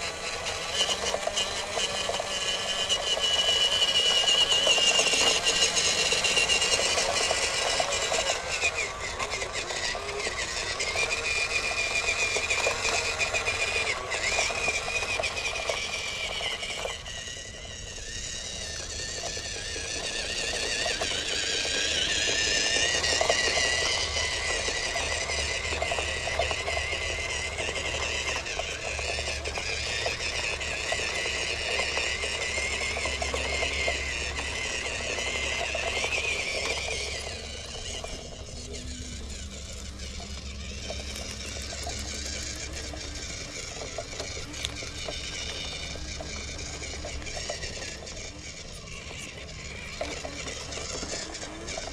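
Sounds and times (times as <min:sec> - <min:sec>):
electric motor whine: 0:00.0 - 0:51.9.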